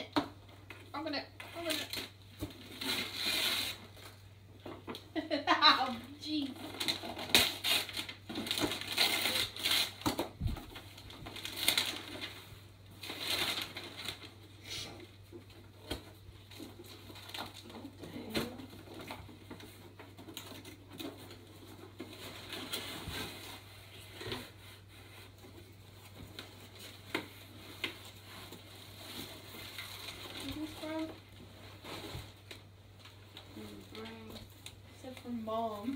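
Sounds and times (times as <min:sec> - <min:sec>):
cardboard and paper rustling: 0:00.3 - 0:35.9.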